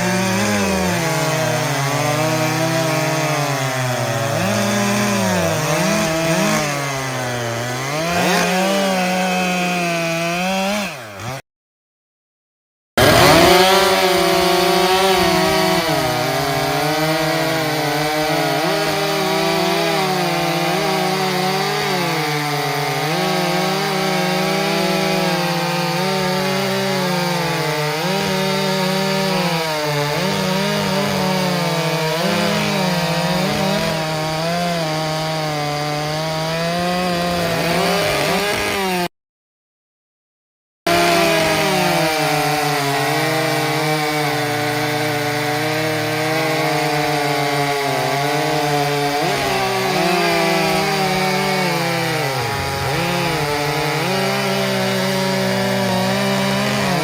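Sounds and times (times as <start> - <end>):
chainsaw cutting log: 0.0 - 11.4, 13.0 - 39.1, 40.9 - 57.0.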